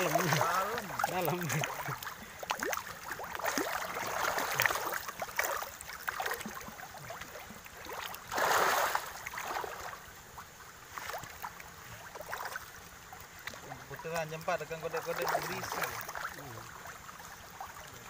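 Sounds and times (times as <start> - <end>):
fish thrashing and splashing: 0.0 - 10.2, 10.8 - 17.8.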